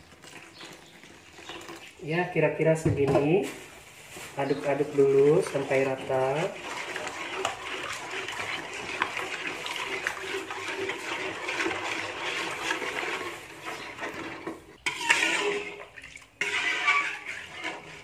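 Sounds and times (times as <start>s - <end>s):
spoon stirring batter in a pan: 0.0s - 18.0s
liquid sloshing: 3.5s - 18.0s.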